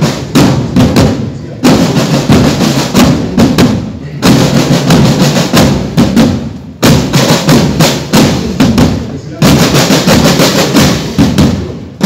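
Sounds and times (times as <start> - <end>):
marching band drums: 0.0 - 12.0.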